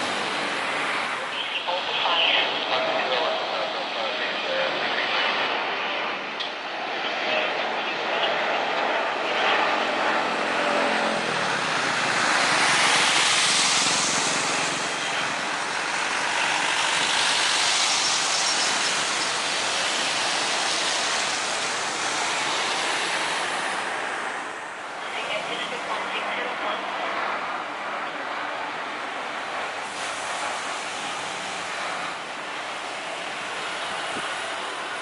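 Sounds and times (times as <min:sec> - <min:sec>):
jet engines rushing: 0:00.0 - 0:35.0.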